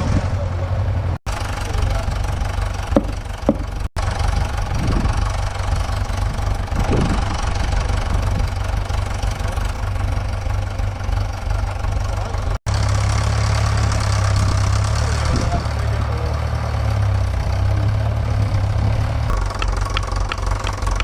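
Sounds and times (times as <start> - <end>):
vehicle engine low rumble: 0.0 - 21.0.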